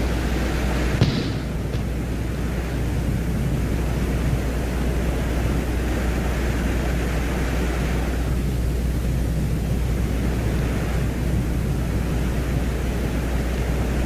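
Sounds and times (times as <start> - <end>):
constant low hum: 0.0 - 14.0
low rumbling hiss: 0.0 - 14.0.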